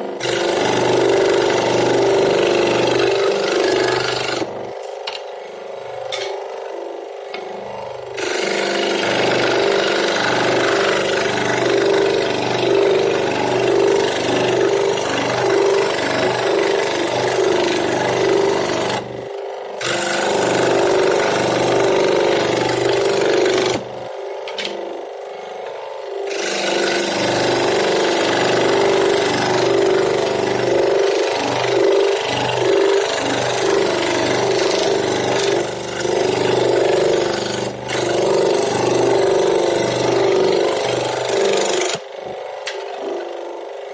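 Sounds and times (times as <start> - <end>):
electric power tool cutting wood: 0.0 - 43.9.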